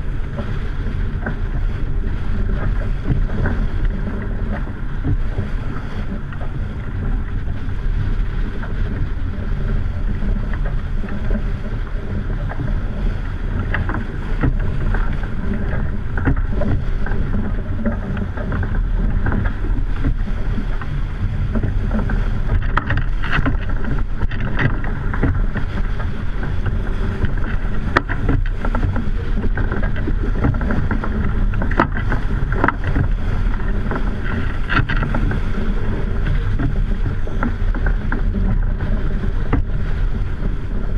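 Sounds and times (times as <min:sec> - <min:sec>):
water rushing along hull: 0:00.0 - 0:40.9
waves slapping the boat: 0:00.0 - 0:40.9
wind buffeting microphone: 0:00.0 - 0:40.9.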